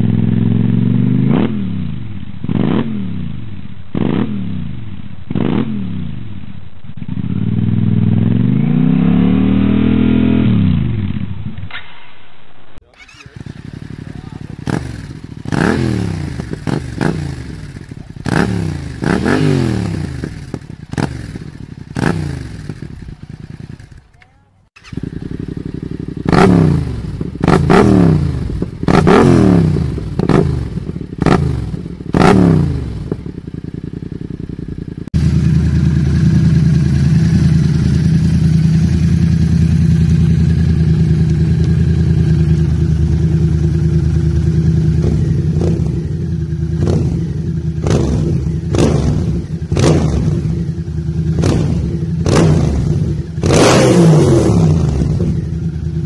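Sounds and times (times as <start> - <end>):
motorcycle engine revving: 0.0 - 11.8, 12.8 - 56.0.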